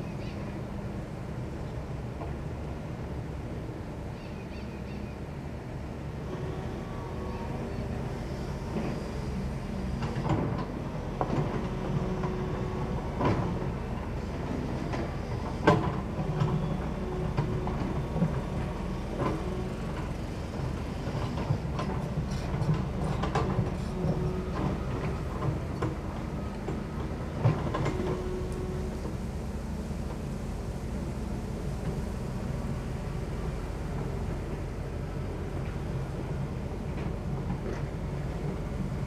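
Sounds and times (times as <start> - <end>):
diesel engine running: 6.2 - 39.0.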